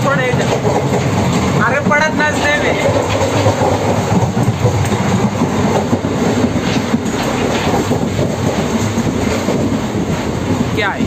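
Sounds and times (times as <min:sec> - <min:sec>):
train wheels and carriage noise: 0:00.0 - 0:11.0.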